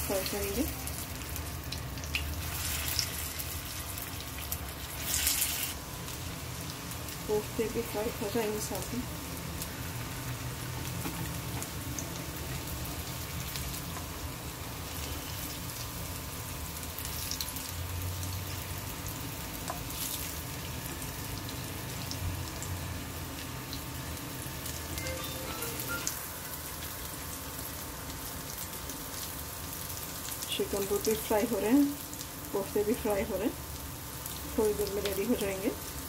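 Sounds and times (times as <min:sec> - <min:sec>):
oil sizzling in frying pan: 0:00.0 - 0:36.0.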